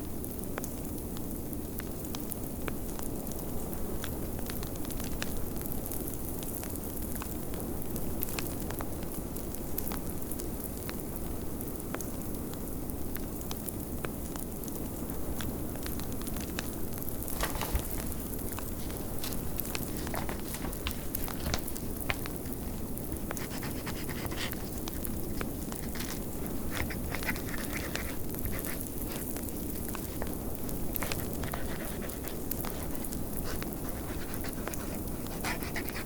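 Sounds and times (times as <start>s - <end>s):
wood fire crackling and popping: 0.1s - 36.0s.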